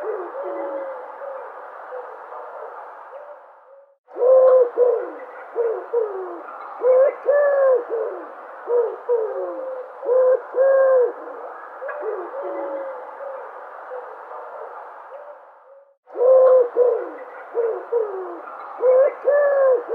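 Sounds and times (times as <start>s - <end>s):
dove cooing: 0.0s - 19.9s
steady background hiss: 0.0s - 19.9s.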